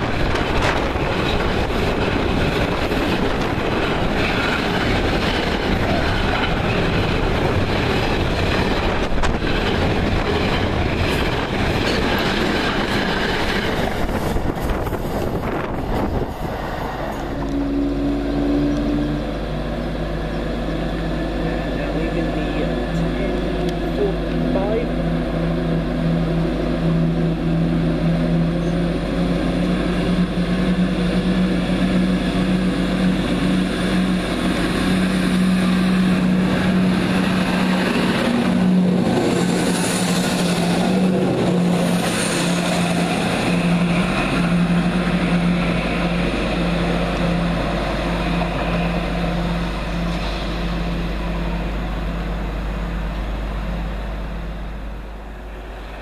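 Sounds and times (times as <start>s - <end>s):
train diesel engines humming: 0.0s - 56.0s.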